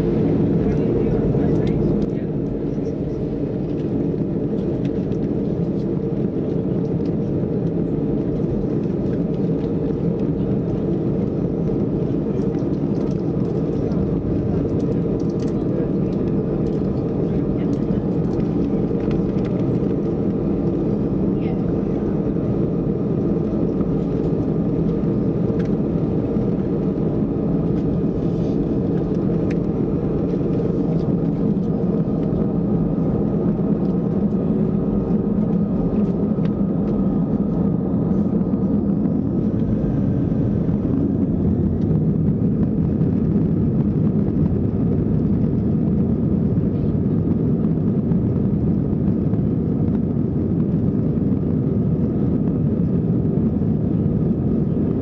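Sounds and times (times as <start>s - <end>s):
jet engine rumble in cabin: 0.0s - 55.0s.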